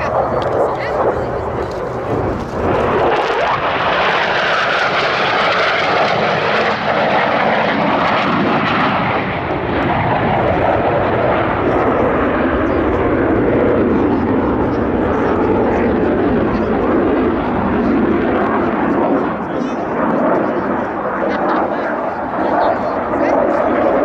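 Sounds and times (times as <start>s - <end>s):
jet engine rushing: 0.0s - 24.0s.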